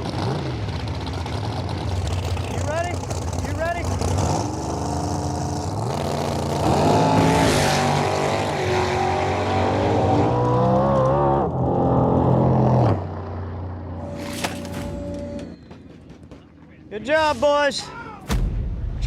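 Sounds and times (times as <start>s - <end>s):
drag race car engines at full throttle: 0.0s - 16.7s.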